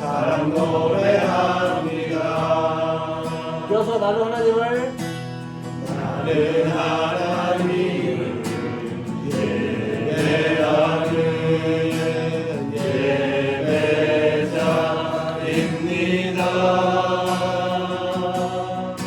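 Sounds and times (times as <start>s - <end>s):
group singing worship song: 0.0s - 4.4s, 5.6s - 19.0s
guitar accompaniment: 0.0s - 19.0s.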